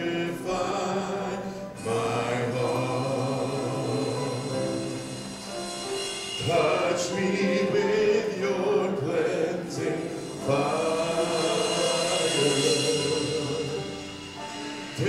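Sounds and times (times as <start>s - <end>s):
men singing worship song: 0.0s - 5.5s, 6.3s - 15.0s.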